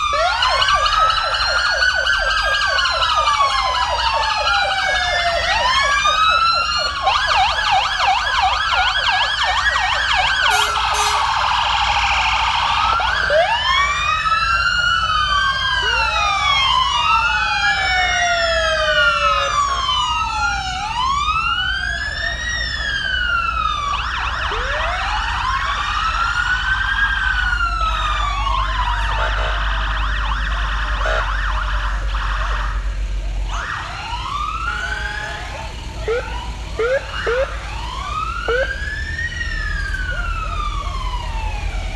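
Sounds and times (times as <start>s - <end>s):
sirens wailing and yelping: 0.0s - 41.9s.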